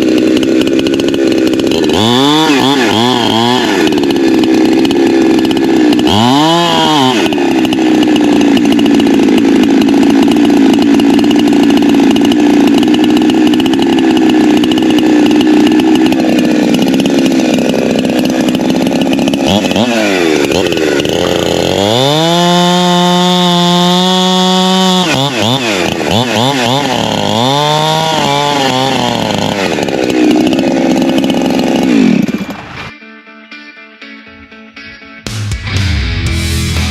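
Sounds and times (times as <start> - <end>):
chainsaw cutting and revving: 0.0 - 33.0, 35.3 - 36.9.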